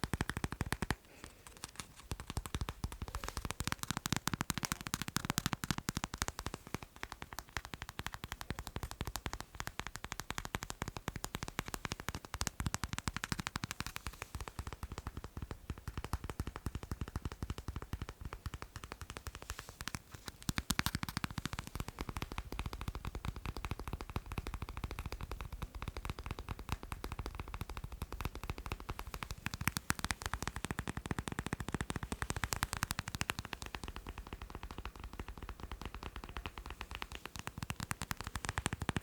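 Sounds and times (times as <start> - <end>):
rapid light tapping: 0.0 - 39.0.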